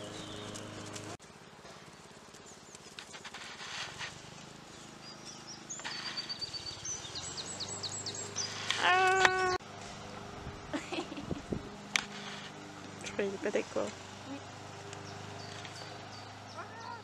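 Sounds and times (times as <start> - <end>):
small birds chirping: 0.0 - 1.2, 2.0 - 9.6, 10.5 - 17.0.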